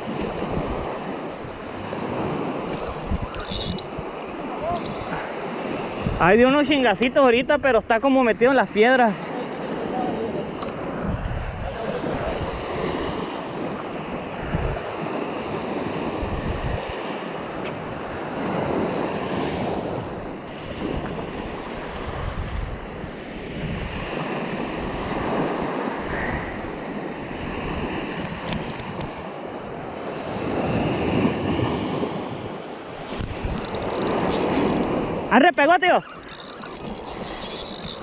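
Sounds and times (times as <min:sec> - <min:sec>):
wind buffeting microphone: 0:00.0 - 0:08.0, 0:10.0 - 0:38.0
small waves washing up beach: 0:00.0 - 0:38.0.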